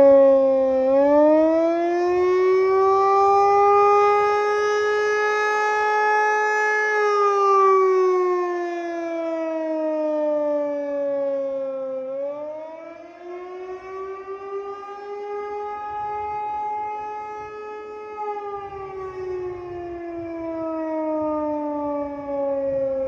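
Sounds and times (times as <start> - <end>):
tornado siren wailing: 0.0 - 23.0.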